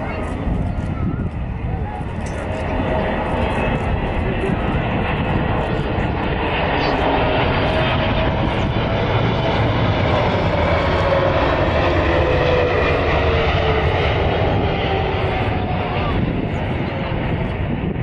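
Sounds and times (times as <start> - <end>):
jet airliner rumble and whine: 0.0 - 18.0.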